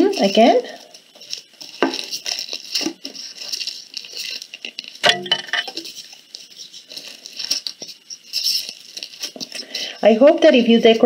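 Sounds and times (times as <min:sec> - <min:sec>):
aluminum foil crinkling: 0:00.0 - 0:11.0
foil crunch: 0:00.0 - 0:11.0.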